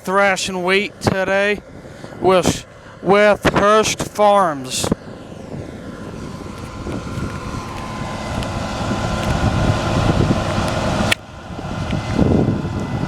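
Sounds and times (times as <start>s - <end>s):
combine harvester drone: 0.0s - 13.0s
wind buffeting microphone: 0.0s - 13.0s.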